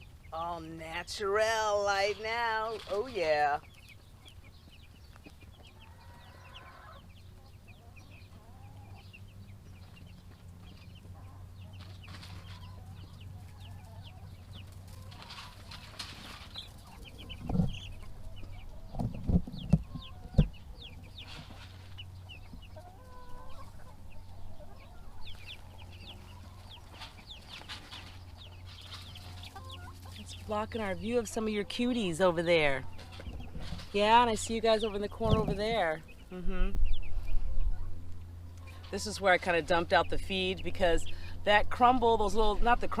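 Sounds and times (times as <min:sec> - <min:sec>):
chicks peeping: 0:00.0 - 0:43.0
steady low hum: 0:03.5 - 0:43.0.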